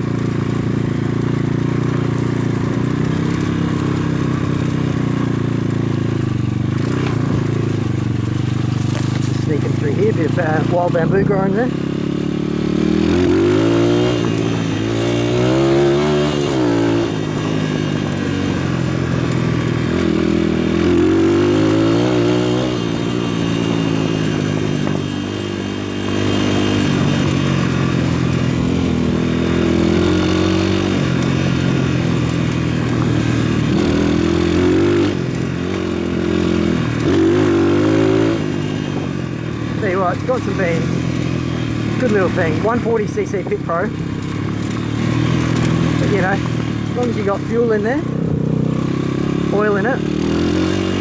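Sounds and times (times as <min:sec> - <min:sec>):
pit bike engine revving: 0:00.0 - 0:51.0.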